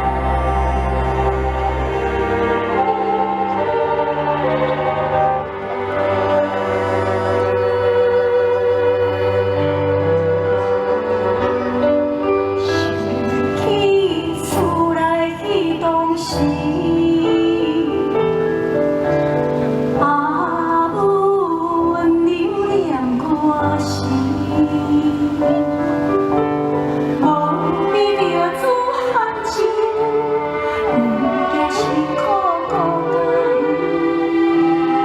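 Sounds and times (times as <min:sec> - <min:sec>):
instrumental accompaniment: 0:00.0 - 0:35.0.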